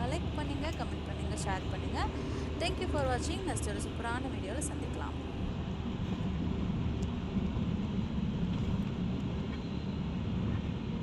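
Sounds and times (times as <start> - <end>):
vehicle running rumble: 0.0 - 11.0.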